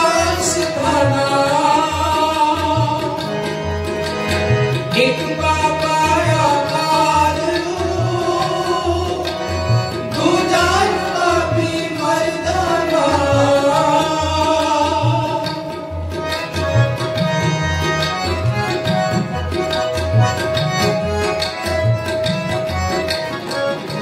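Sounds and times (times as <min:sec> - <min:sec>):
harmonium melody: 0:00.0 - 0:24.0
tabla rhythm: 0:00.0 - 0:24.0.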